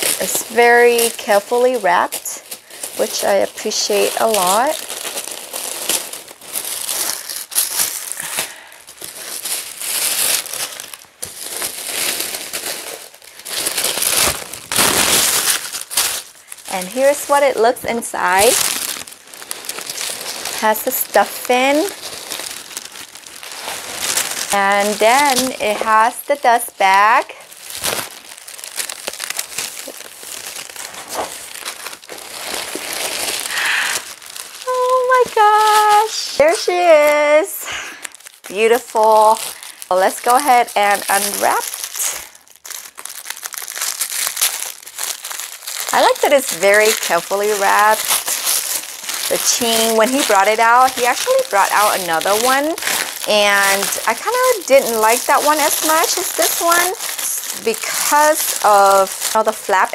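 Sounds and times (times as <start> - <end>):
wrapping paper crinkling: 0.0 - 59.9.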